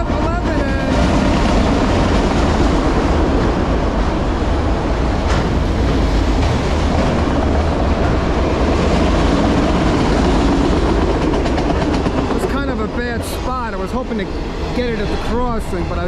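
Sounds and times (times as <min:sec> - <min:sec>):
steel wheels on rail: 0:00.0 - 0:16.0.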